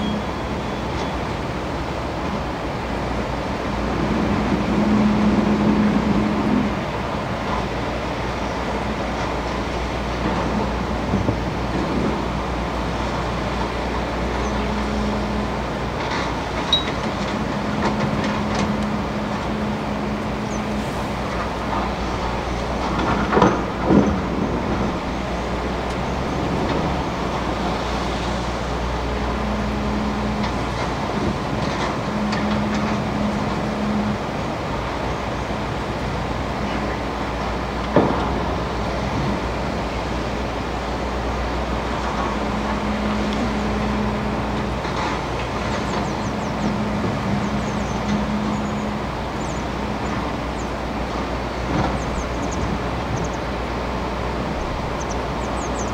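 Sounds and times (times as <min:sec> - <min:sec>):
excavator diesel engine running: 0:00.0 - 0:55.9
river water rushing: 0:00.0 - 0:55.9.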